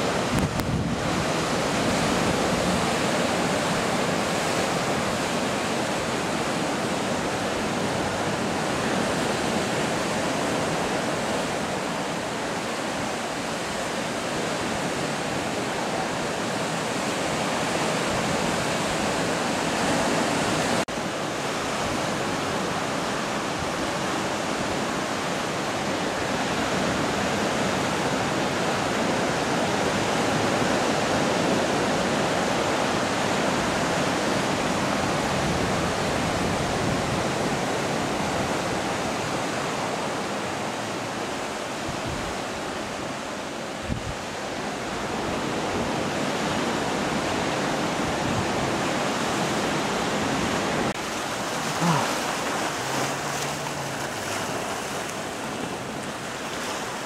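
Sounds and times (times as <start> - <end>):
surf breaking on rocky shore: 0.0 - 57.0.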